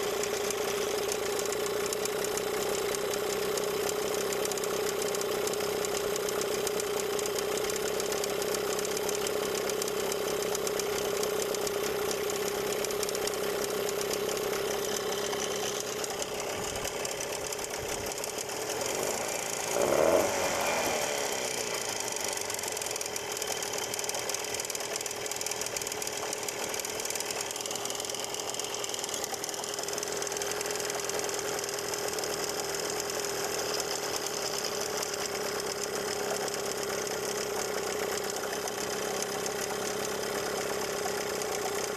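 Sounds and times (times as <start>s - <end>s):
outboard motor running: 0.0s - 41.9s.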